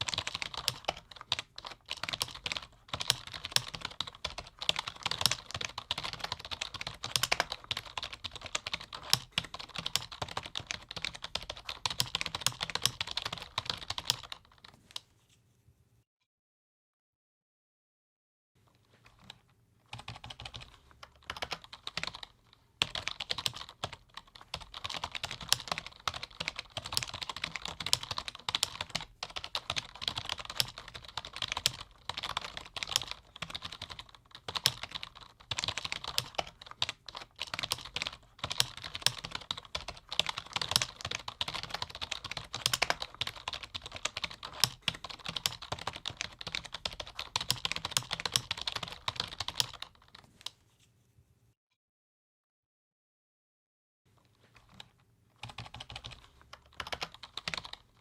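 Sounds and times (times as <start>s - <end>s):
fast keyboard typing: 0.0s - 14.7s, 19.0s - 50.2s, 54.4s - 58.0s.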